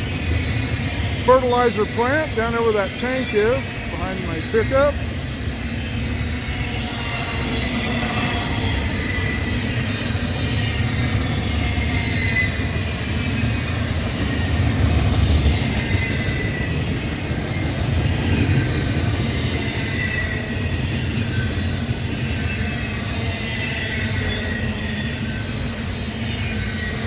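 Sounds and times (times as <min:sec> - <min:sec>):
train wheels rumbling on rail: 0:00.0 - 0:27.0
high wheel squeal: 0:00.1 - 0:14.7, 0:15.6 - 0:27.0.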